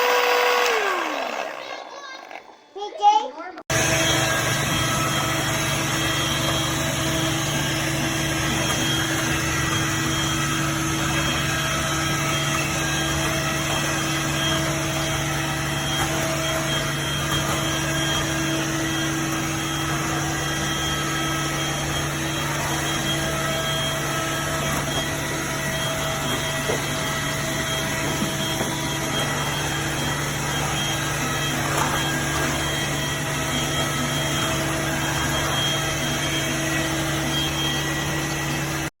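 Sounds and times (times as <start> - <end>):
vacuum cleaner running: 0.0 - 2.4, 3.7 - 39.0.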